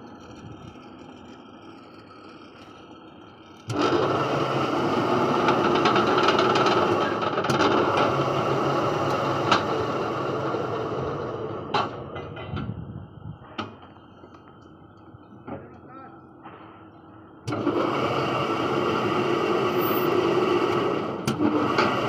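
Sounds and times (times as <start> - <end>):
loud machine running: 0.0 - 22.0.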